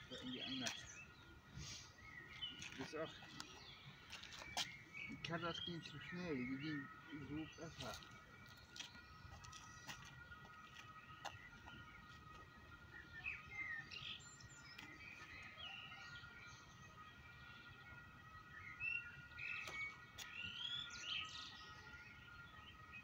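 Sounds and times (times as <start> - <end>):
small songbirds chirping: 0.0 - 23.0.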